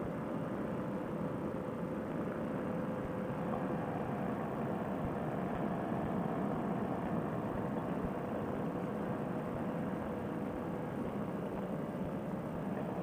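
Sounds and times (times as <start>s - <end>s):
paramotor engine droning: 0.0s - 13.0s.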